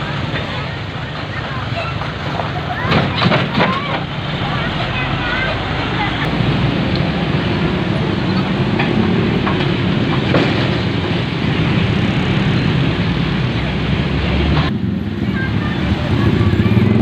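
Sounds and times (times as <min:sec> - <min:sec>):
heavy vehicle engine drone: 0:00.0 - 0:17.0
road noise: 0:00.0 - 0:17.0.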